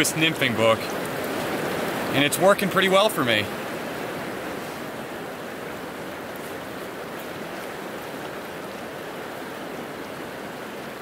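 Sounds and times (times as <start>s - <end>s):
mountain stream rushing over rocks: 0.0s - 11.0s.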